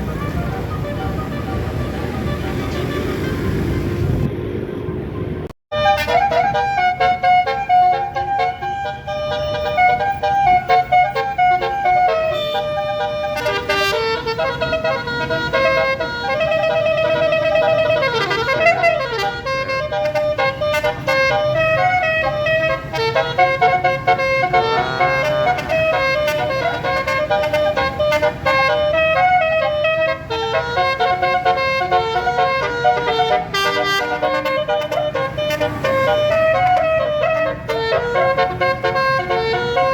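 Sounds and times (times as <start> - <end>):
air horns playing a melody: 0.0 - 4.3, 5.7 - 39.9
bus engine rumbling: 0.0 - 39.9.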